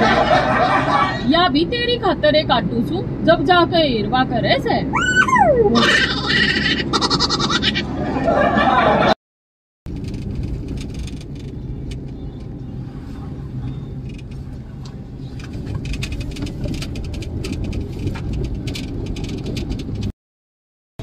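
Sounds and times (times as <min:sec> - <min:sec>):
car engine and tyres rumbling: 0:00.0 - 0:09.1, 0:09.9 - 0:20.1.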